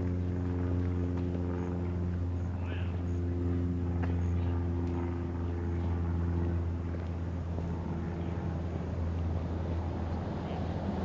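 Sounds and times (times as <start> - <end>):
engine low drone: 0.0 - 11.0.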